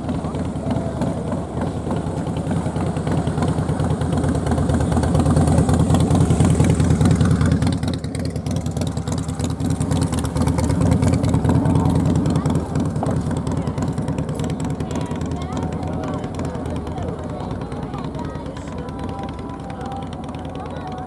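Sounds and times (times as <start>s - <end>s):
aircraft piston engines rumbling: 0.0s - 21.0s.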